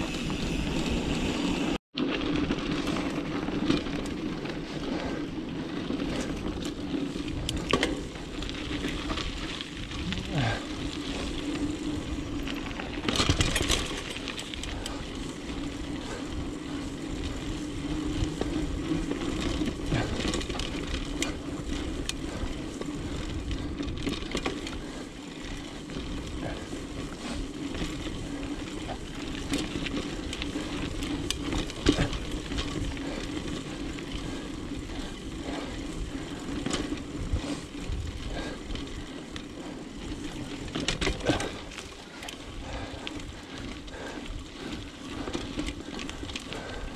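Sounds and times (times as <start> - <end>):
bike clicks and rattles: 0.0 - 46.9
bike tyres rolling on dirt: 0.0 - 46.9.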